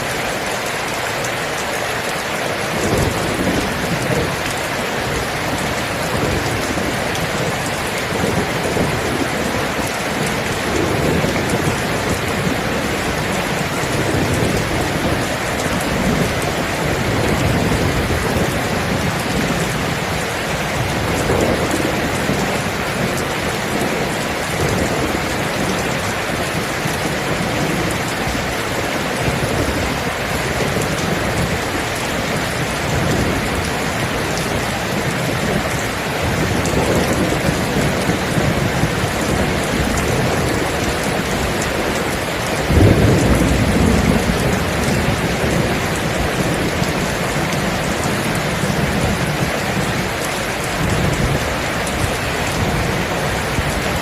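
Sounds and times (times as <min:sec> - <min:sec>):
steady rain falling: 0:00.0 - 0:54.0
thunder rumbling: 0:02.6 - 0:54.0.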